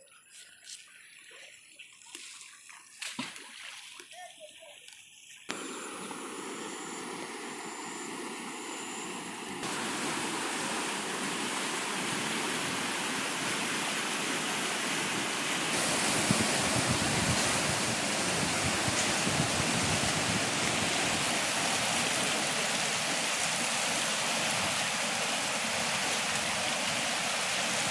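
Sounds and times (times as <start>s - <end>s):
river floodwater rushing: 5.5s - 27.9s.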